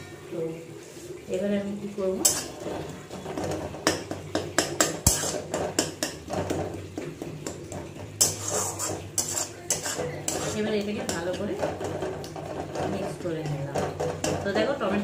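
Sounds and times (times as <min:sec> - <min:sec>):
tomatoes being mashed and stirred: 0:00.9 - 0:15.0
spatula scraping a metal pan: 0:02.2 - 0:15.0.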